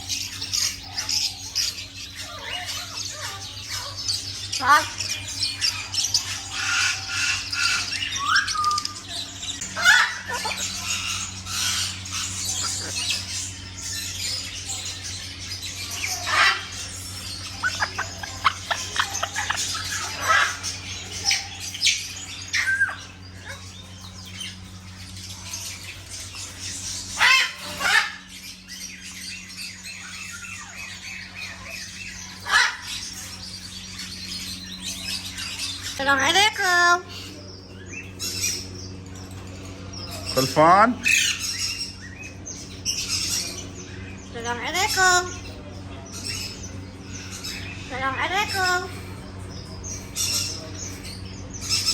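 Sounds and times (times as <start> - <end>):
birds squawking: 0.0 - 51.9
high bird chirps: 0.0 - 51.9
steady low hum: 0.0 - 51.9.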